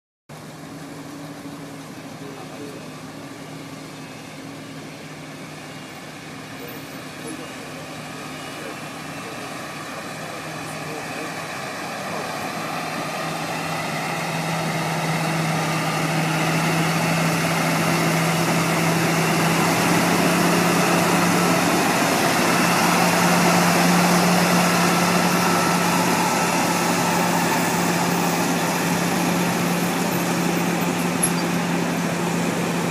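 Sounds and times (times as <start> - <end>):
diesel engine running: 0.3 - 32.9.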